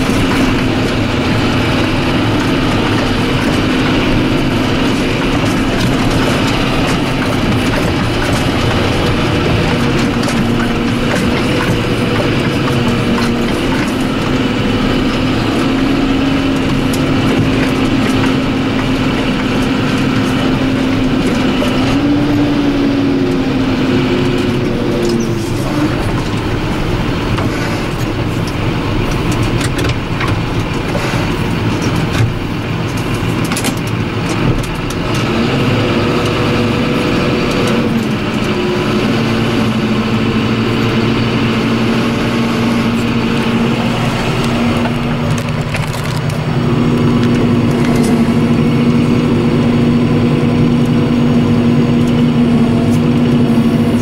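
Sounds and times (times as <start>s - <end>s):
rattles and knocks from trailer: 0.0s - 22.5s, 23.4s - 53.2s
tractor diesel engine under load: 0.0s - 54.0s.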